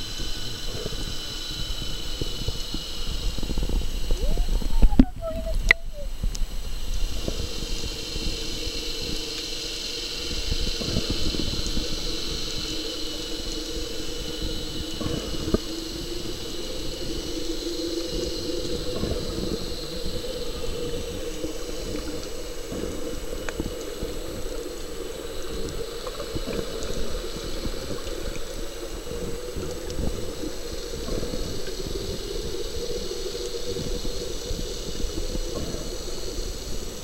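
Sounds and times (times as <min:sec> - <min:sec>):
faint underwater crackles and clicks: 0:00.0 - 0:37.0
muffled underwater rush: 0:00.0 - 0:37.0.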